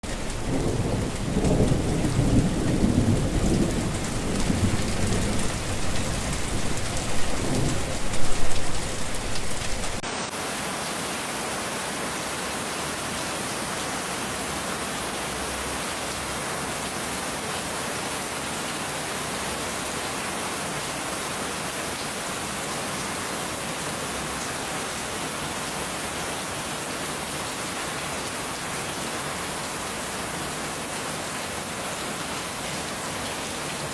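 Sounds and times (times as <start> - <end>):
pouring rain: 0.0 - 33.9.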